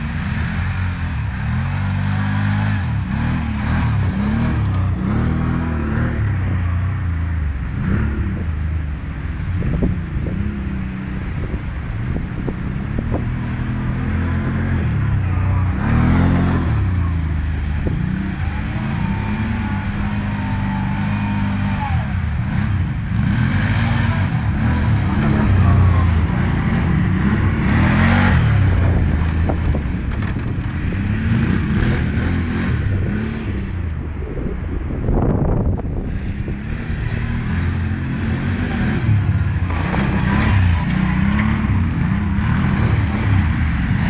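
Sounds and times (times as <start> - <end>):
quad bike engines revving: 0.0 - 44.0.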